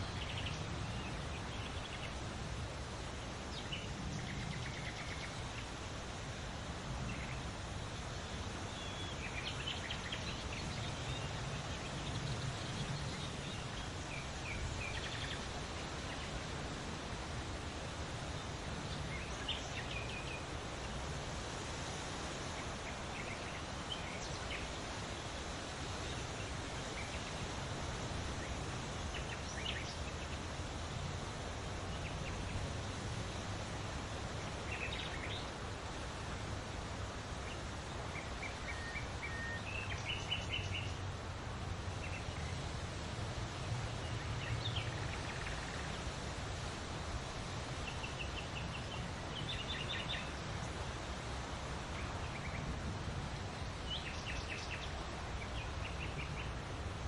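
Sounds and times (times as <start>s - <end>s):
wind rustling leaves: 0.0s - 57.0s.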